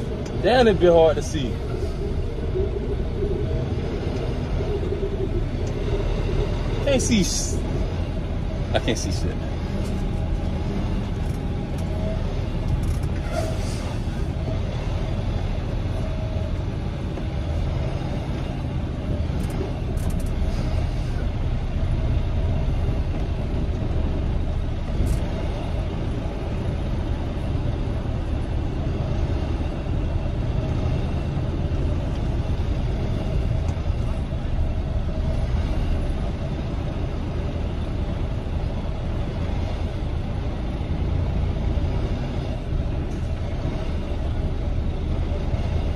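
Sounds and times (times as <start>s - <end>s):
diesel truck engine rumbling: 0.0s - 45.9s.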